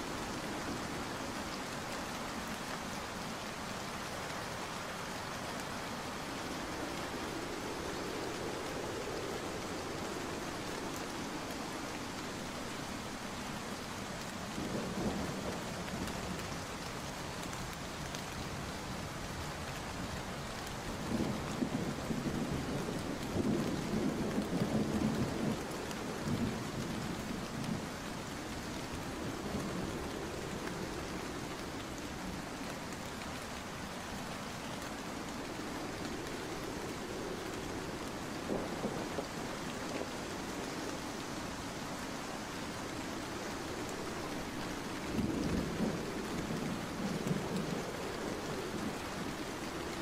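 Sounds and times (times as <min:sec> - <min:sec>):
heavy rain pattering: 0:00.0 - 0:50.0.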